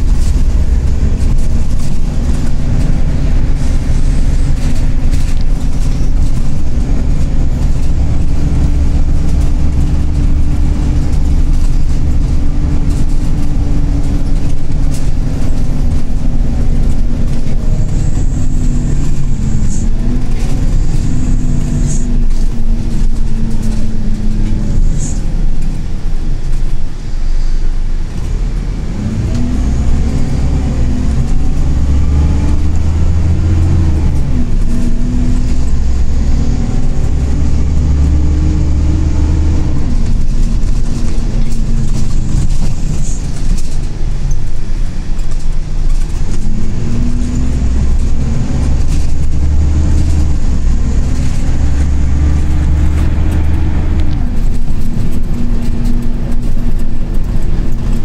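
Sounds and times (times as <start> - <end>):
diesel bus engine: 0.0 - 58.0.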